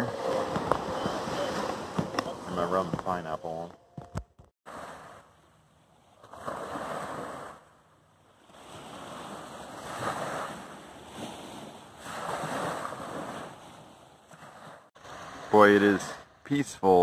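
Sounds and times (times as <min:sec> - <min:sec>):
waves breaking on sandy beach: 0:00.0 - 0:03.5, 0:04.7 - 0:07.7, 0:08.3 - 0:16.2.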